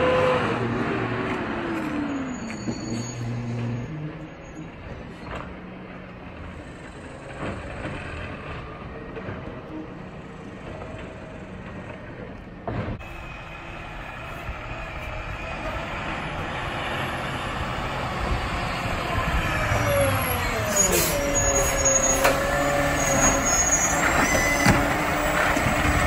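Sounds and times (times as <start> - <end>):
garbage truck engine running: 4.1 - 26.0.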